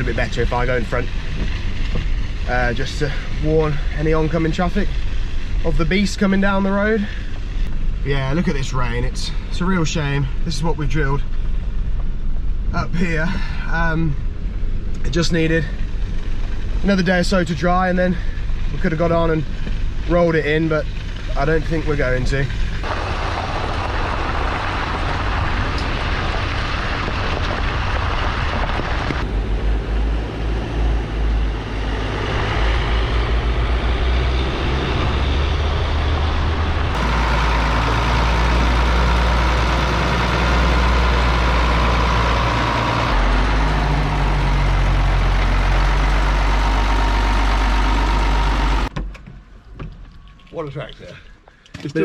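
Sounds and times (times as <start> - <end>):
heavy diesel engine driving: 0.0 - 49.0.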